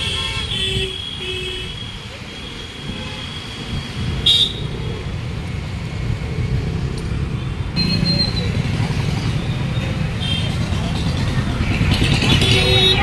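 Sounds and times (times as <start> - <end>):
scooter engine and road rumble: 0.0 - 13.0.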